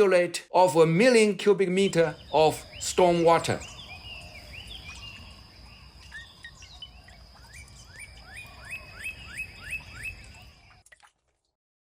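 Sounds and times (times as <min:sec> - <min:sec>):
bird chirping: 0:00.6 - 0:10.9.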